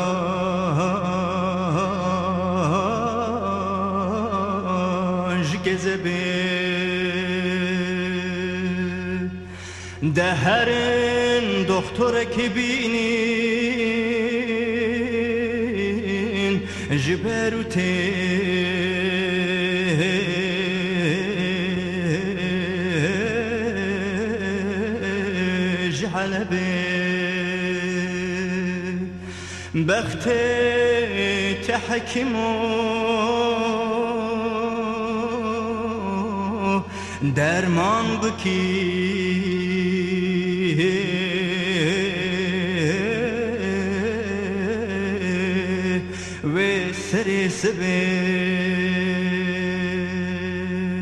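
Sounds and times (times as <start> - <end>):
man singing long note: 0.0 - 51.0
steady low hum: 0.0 - 51.0.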